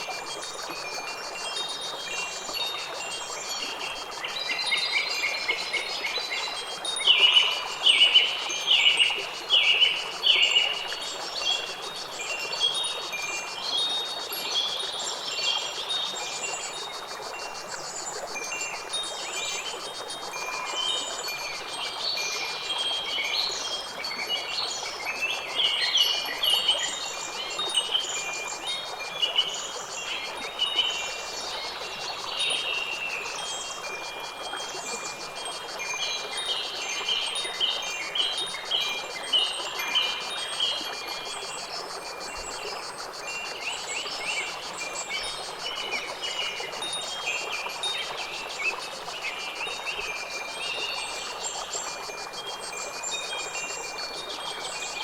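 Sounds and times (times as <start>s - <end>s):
insects pulsing: 0.0s - 55.0s.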